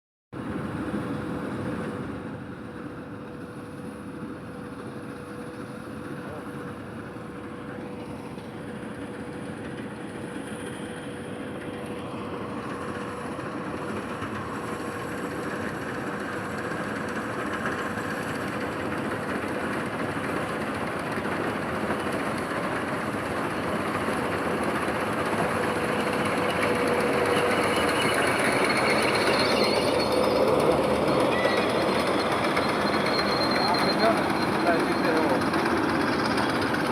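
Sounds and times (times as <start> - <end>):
heavy vehicle engine humming: 0.4 - 36.9.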